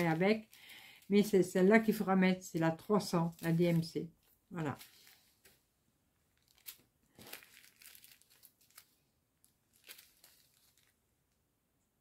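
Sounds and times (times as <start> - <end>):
plastic bags crinkling: 0.0 - 5.5, 6.2 - 11.1.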